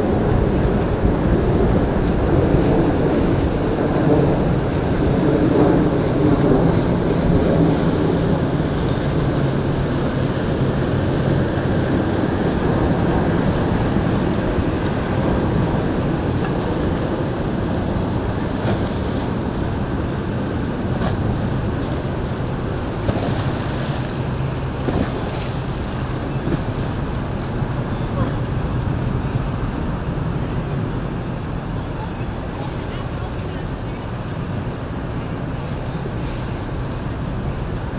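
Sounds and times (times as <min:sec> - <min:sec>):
boat engines droning: 0:00.0 - 0:37.9
water washing along hull: 0:00.0 - 0:37.9
wind buffeting microphone: 0:00.0 - 0:37.9.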